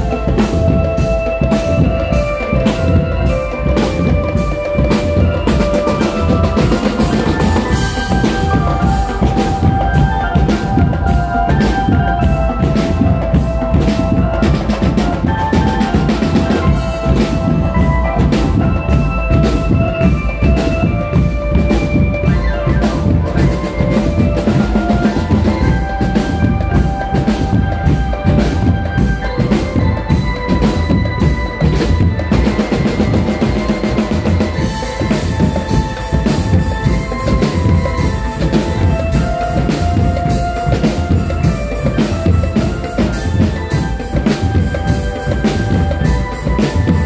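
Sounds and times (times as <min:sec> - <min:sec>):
bass and snare drums beating: 0:00.0 - 0:47.0
marching drum band playing: 0:00.0 - 0:47.0.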